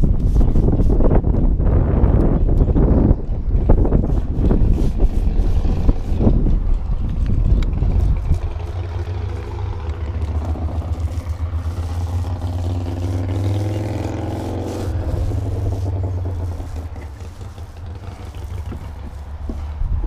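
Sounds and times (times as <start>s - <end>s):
motor engine running: 0.4s - 20.0s.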